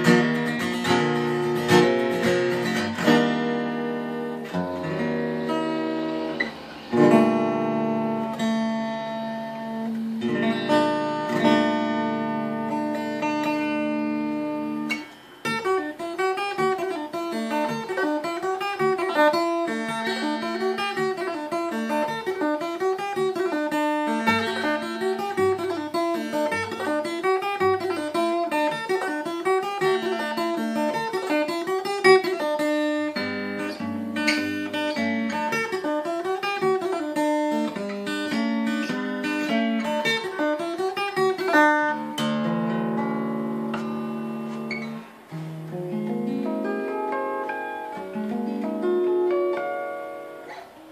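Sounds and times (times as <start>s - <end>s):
acoustic guitar chords ringing: 0.0s - 50.9s
fingerpicked acoustic guitar: 0.0s - 50.9s.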